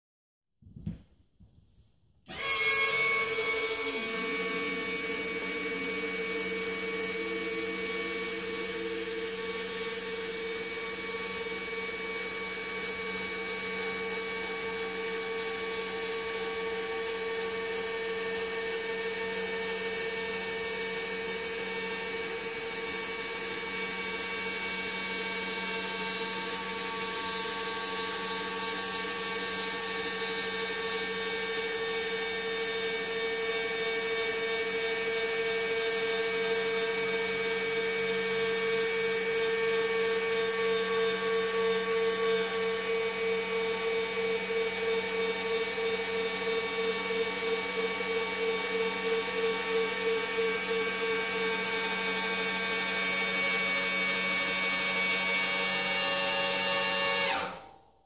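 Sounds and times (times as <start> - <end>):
electric actuator motor whine: 2.3 - 57.7.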